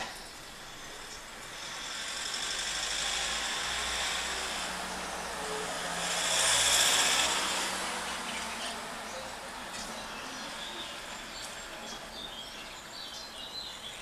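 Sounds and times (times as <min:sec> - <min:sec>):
passing road traffic: 0:00.0 - 0:14.0.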